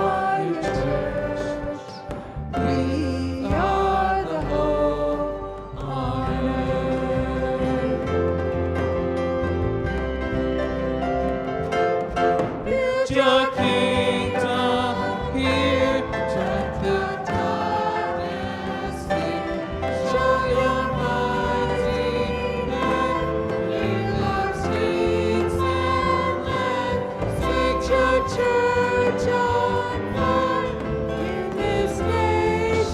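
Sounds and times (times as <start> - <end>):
choir singing: 0.0 - 9.9, 12.4 - 32.9
instrumental accompaniment: 0.0 - 32.9.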